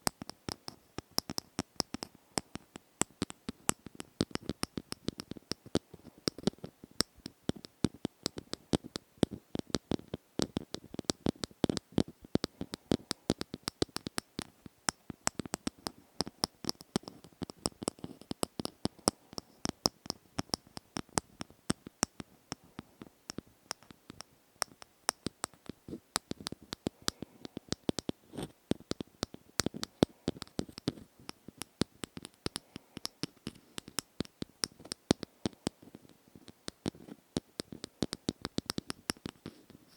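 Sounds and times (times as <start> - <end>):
rapid tapping and clicks: 0.0 - 39.8.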